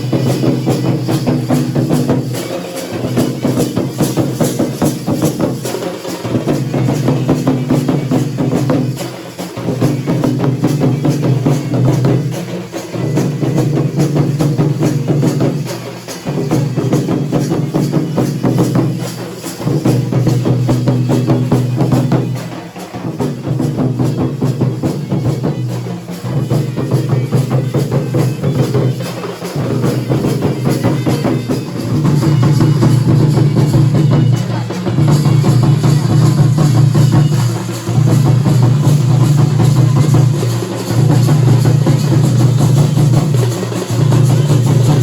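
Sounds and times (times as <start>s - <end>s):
drums playing fast rhythm: 0.0s - 45.0s.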